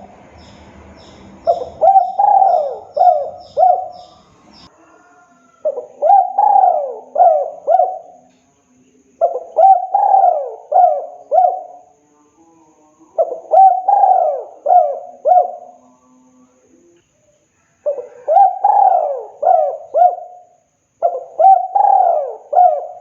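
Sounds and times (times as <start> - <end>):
dove cooing: 0.0 - 8.3, 9.2 - 11.9, 13.1 - 15.9, 17.8 - 23.0.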